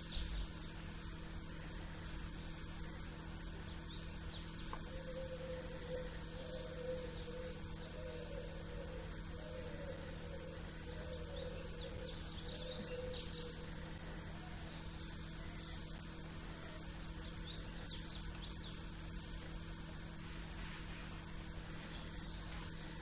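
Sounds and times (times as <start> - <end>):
songbirds chirping: 0.0 - 23.0
steady low hum: 0.0 - 23.0.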